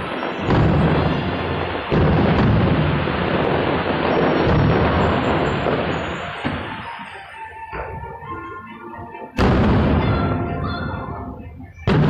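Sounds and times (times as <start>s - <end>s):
fireworks booming: 0.0s - 8.6s, 9.4s - 12.0s.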